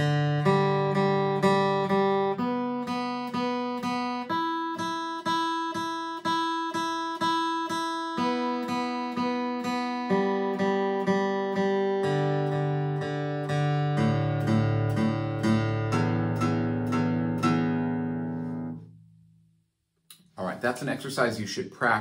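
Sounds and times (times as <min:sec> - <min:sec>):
acoustic guitar picked notes: 0:00.0 - 0:19.5.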